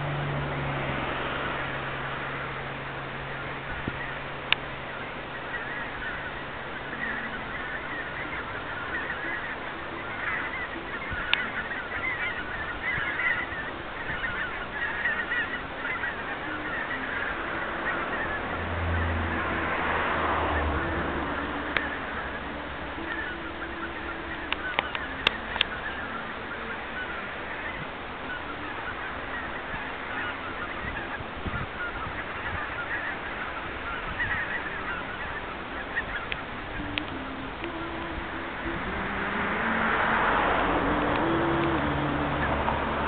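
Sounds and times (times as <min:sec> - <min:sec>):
geese honking: 0:00.0 - 0:43.0.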